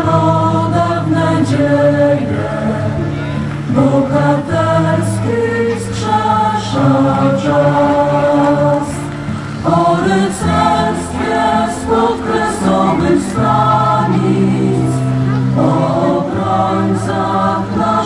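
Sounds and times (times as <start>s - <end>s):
choir singing sustained chords: 0.0s - 18.0s.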